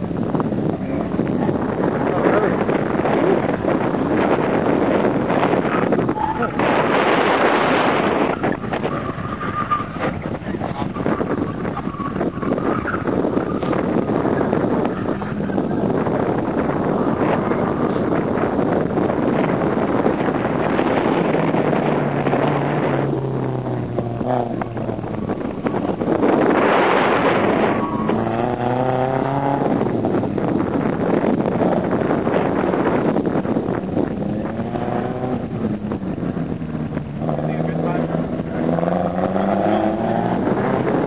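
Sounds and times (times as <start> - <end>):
car engine revving: 0.0 - 41.0
loud rushing noise: 0.0 - 41.0.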